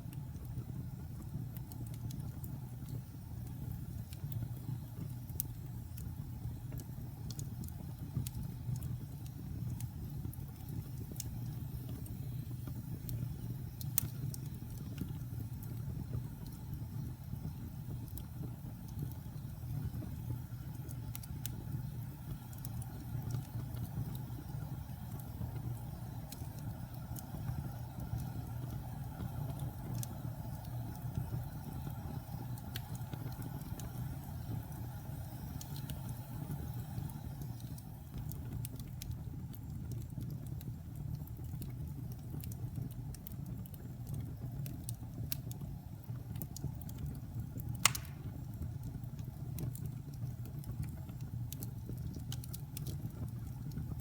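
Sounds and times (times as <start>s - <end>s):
wood fire crackling in fireplace: 0.0s - 54.0s.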